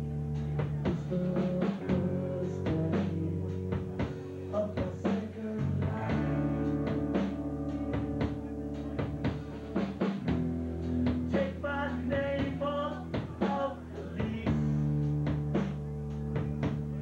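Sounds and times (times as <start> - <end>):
man singing: 0.0 - 8.6, 11.0 - 17.0
rock band playing: 0.0 - 17.0.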